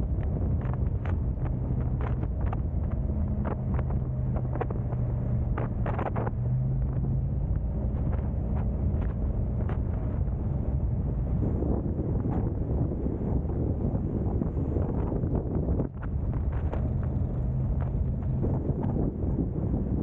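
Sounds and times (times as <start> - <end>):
car engine and tyre rumble: 0.0 - 20.0
wind buffeting microphone: 0.0 - 20.0.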